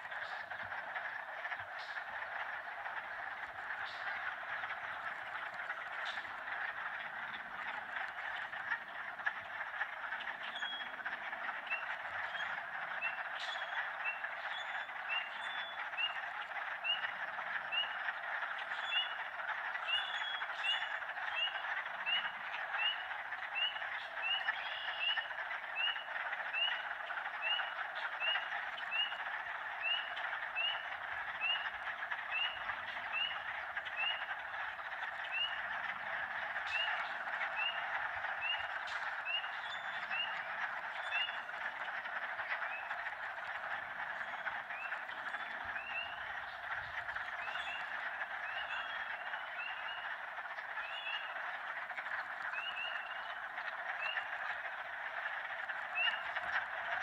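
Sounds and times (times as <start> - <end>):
chorus of frogs and toads: 0.0 - 57.0.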